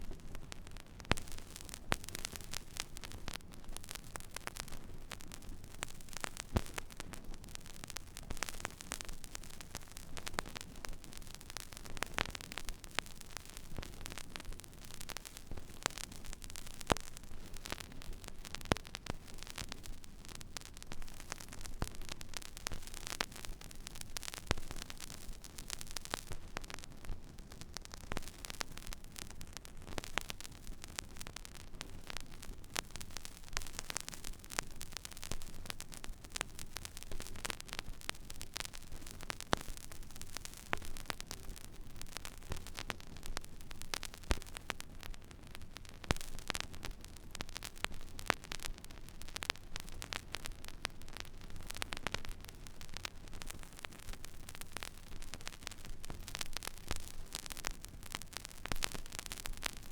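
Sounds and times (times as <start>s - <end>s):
vinyl crackles and pops: 0.0s - 59.9s
vinyl surface hiss: 0.0s - 59.9s.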